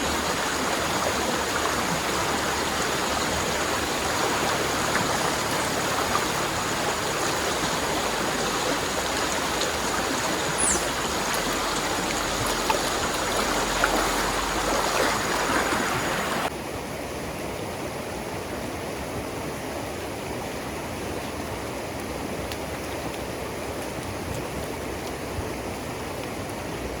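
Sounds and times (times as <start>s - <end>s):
rain and river water rushing: 0.0s - 27.0s.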